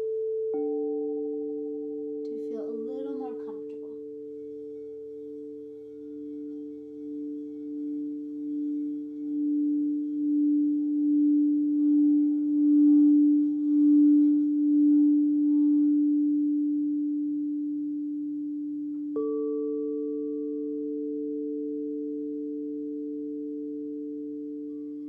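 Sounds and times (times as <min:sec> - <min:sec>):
singing bowl hum: 0:00.0 - 0:25.0
singing bowl struck ringing: 0:00.0 - 0:25.0.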